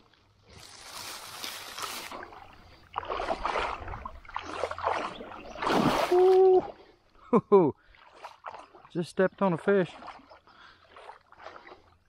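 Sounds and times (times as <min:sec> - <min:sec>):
wading through shallow water: 0:00.0 - 0:12.0.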